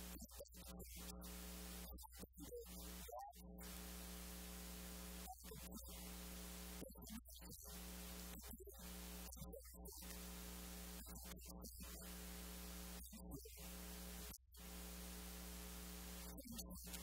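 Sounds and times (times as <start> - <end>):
electrical mains hum with hiss: 1.0 - 2.0, 2.7 - 6.9, 7.6 - 17.0.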